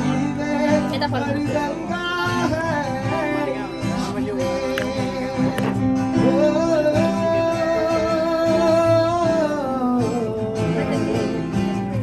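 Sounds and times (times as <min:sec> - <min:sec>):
guitar: 0:00.0 - 0:12.0.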